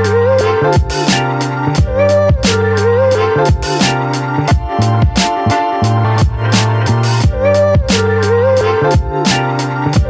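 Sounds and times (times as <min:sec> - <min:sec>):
background music with drum beat: 0:00.7 - 0:02.8, 0:03.4 - 0:08.2, 0:08.9 - 0:10.0.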